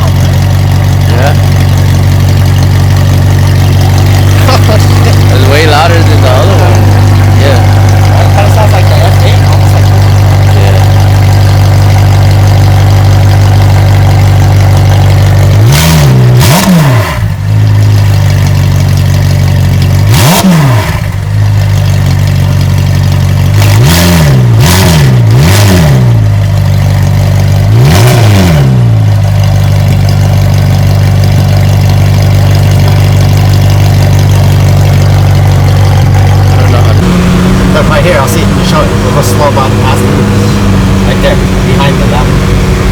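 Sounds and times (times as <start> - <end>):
engine throttle blips: 0.0 - 42.9
sports car engine droning: 0.0 - 42.9.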